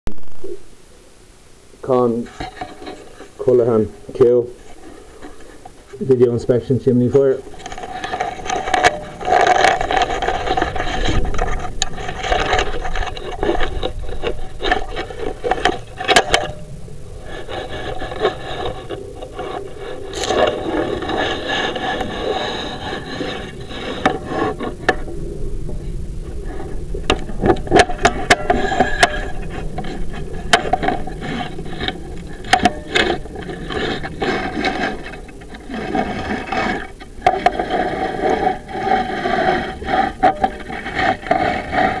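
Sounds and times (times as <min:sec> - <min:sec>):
camera scraping inside flue: 0:01.9 - 0:42.0.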